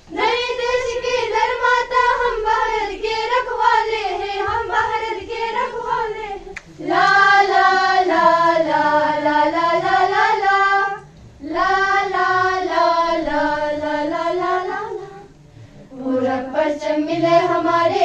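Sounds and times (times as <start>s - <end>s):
women singing in unison: 0.1s - 18.0s.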